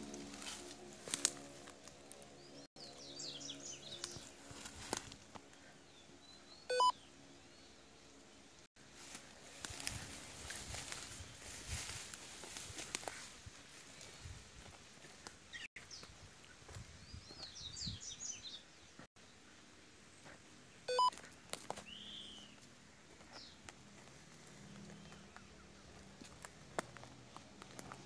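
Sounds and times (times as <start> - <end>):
birds chirping: 0.0 - 8.7, 9.7 - 19.5, 21.7 - 28.0
faint outdoor noise: 0.0 - 28.0.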